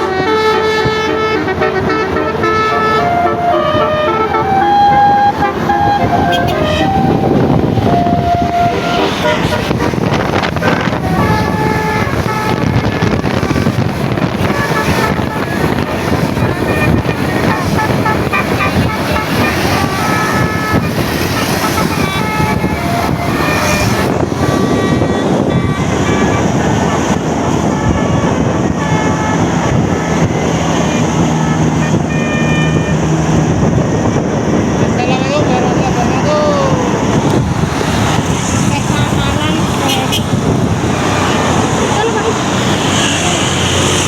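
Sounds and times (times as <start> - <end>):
bus air horn playing a melody: 0.0 - 34.6, 36.8 - 44.0
engine and road noise: 0.0 - 44.0
loud steady background noise: 0.0 - 44.0.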